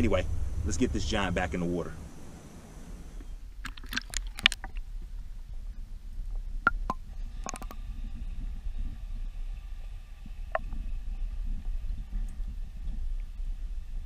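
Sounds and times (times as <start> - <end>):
faint steady whine: 0.0 - 14.0
muffled underwater rumble: 0.0 - 14.0.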